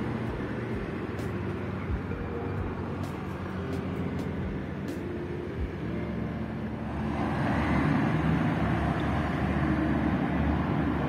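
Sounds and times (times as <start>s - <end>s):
road noise: 0.0s - 11.0s
vehicle engine passing: 0.0s - 11.0s.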